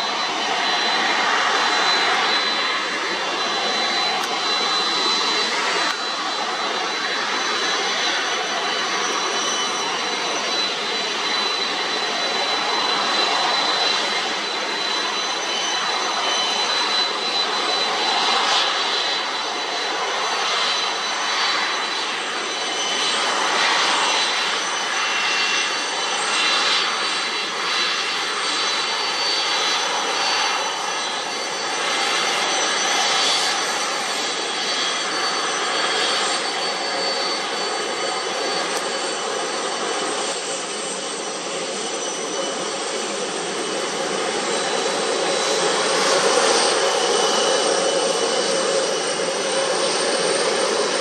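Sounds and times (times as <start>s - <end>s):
jet engines taxiing: 0.0s - 51.0s.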